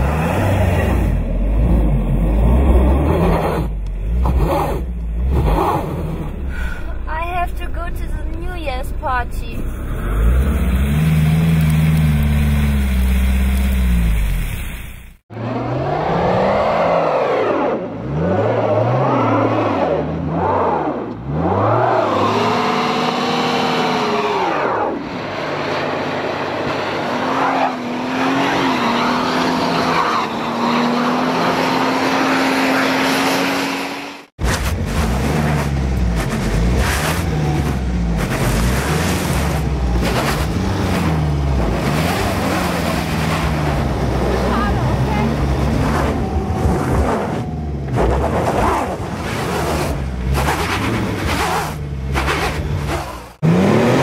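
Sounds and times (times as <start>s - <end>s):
car engines revving: 0.0s - 14.6s, 15.2s - 54.0s.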